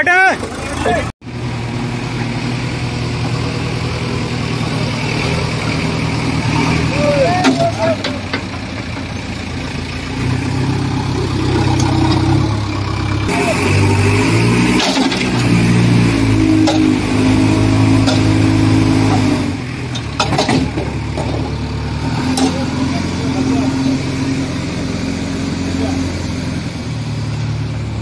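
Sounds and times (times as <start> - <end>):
diesel engine revving under load: 0.0 - 28.0.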